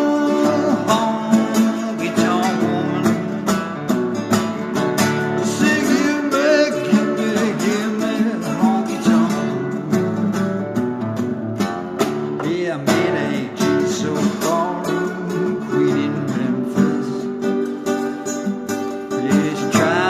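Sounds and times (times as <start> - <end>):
slide guitar gliding notes: 0.0 - 20.0
steady guitar beat: 0.0 - 20.0.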